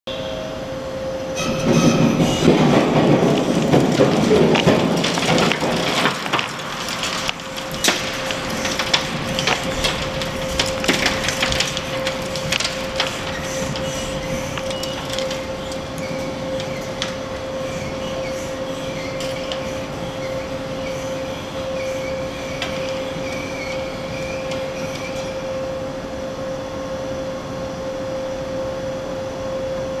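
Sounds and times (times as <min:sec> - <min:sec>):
crackling concrete fragments: 0:01.4 - 0:25.8.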